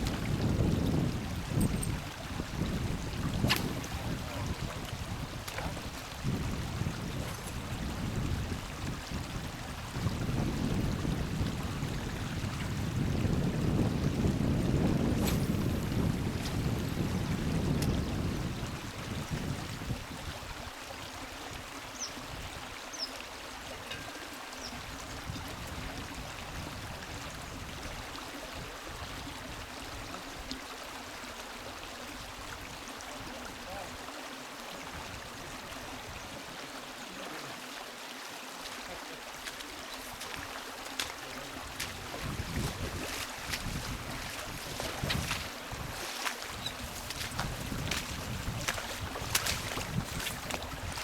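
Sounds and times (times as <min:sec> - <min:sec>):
rushing river water: 0:00.0 - 0:51.0.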